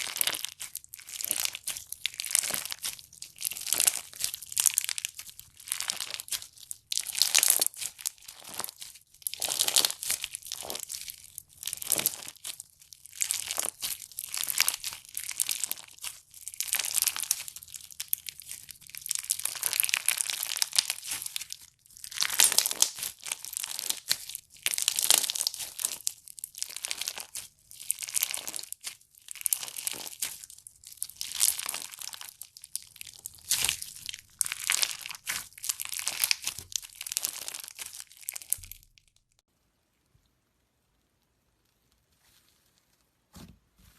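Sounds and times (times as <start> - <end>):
slime crackling and crunching: 0.0 - 39.5.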